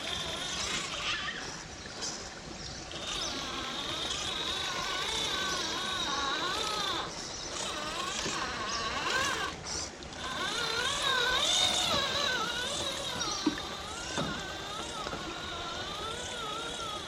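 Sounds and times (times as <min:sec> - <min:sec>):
model car motor whining: 0:00.0 - 0:17.0.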